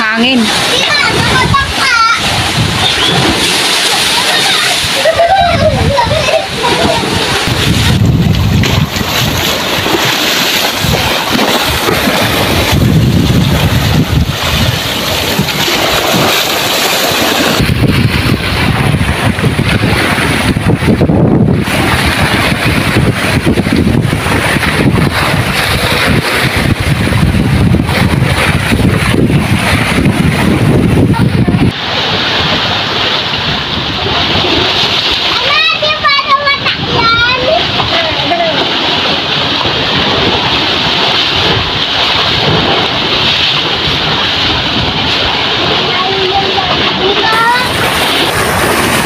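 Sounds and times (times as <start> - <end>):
strong wind gusting: 0.0 - 49.0
waves splashing on shore: 0.0 - 49.0.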